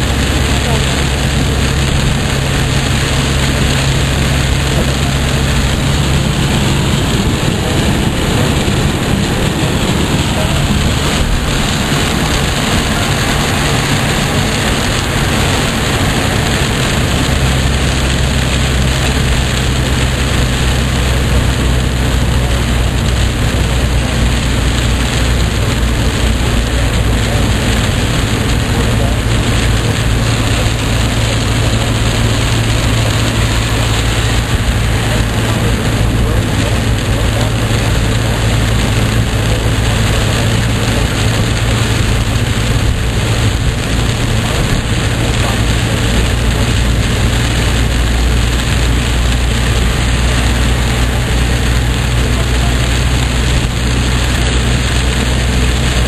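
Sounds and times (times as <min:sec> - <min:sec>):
heavy rain on car roof: 0:00.0 - 0:56.0
low engine hum: 0:00.0 - 0:56.0
tyres hissing on wet road: 0:00.0 - 0:56.0.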